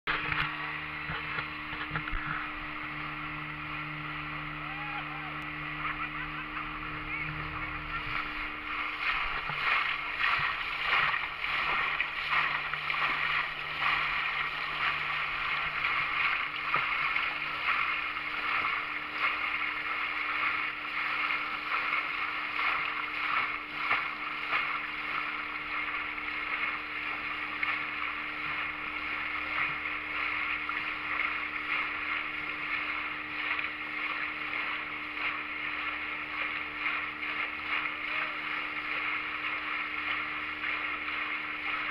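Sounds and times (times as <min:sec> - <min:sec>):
motorboat engine hum: 0:00.0 - 0:41.9
water splashing along hull: 0:00.0 - 0:41.9.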